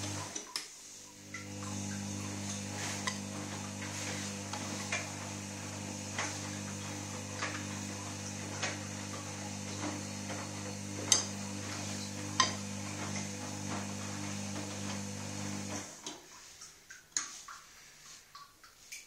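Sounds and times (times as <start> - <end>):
washing machine motor hum: 0.0 - 16.6.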